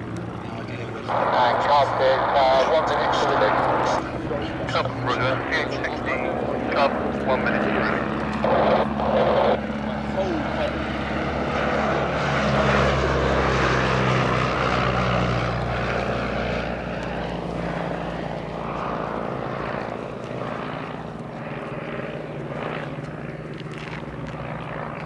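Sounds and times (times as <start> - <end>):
propeller plane engine: 0.0 - 25.0.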